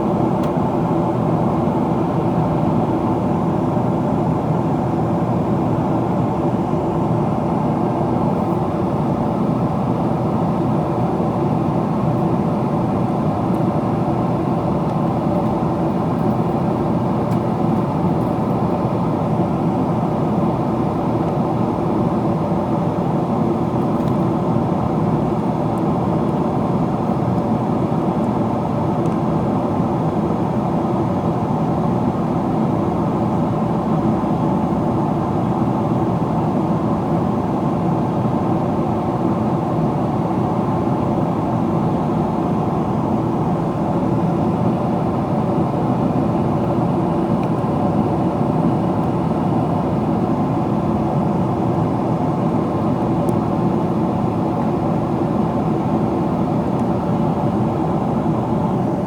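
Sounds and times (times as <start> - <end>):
jet engines humming: 3.5 - 59.0.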